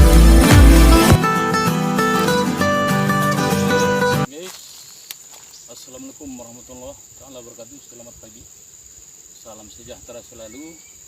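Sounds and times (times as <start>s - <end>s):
insects droning: 1.3s - 11.0s.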